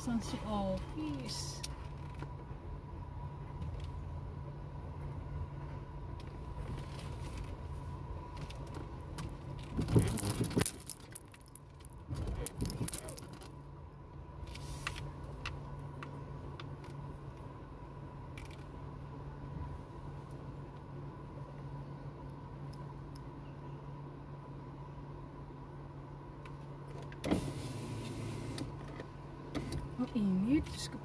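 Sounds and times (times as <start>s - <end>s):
car engine hum from inside: 0.0s - 31.0s.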